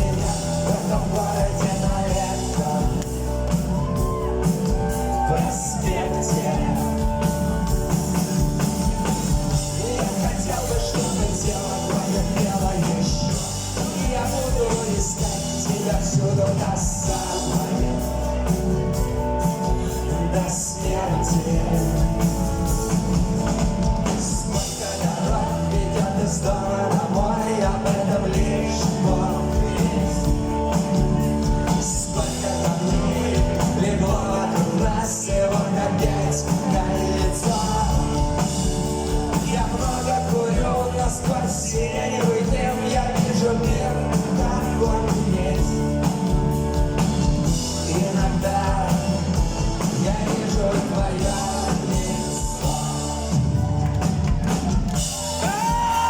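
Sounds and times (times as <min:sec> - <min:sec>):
drum kit beat: 0:00.0 - 0:56.0
rock band playing live: 0:00.0 - 0:56.0.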